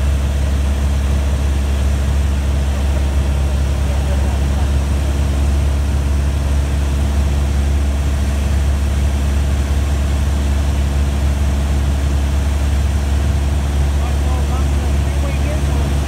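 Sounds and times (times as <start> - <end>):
aircraft engine drone in cabin: 0.0 - 16.0.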